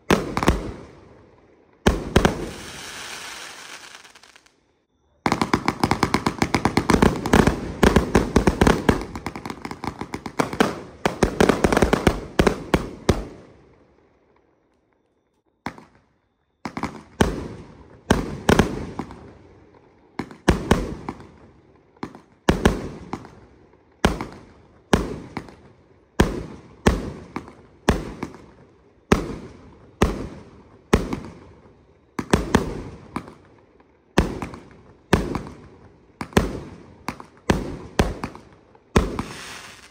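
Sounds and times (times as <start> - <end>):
fireworks shots: 0.0 - 4.6, 5.2 - 14.0, 15.6 - 39.9.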